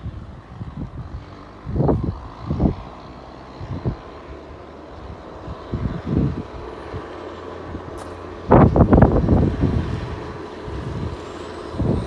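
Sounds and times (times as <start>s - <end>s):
distant tractor engine: 0.0s - 12.0s
low rumbling bursts: 0.0s - 12.0s.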